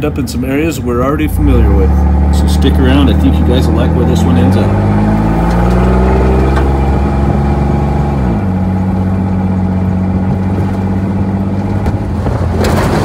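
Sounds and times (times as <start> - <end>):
pickup engine droning: 0.0 - 13.0.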